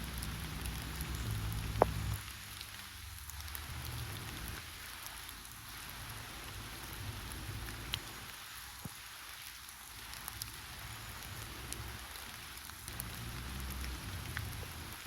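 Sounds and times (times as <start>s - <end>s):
fire popping: 0.0s - 8.2s, 8.8s - 15.0s
campfire crackling: 0.0s - 15.0s.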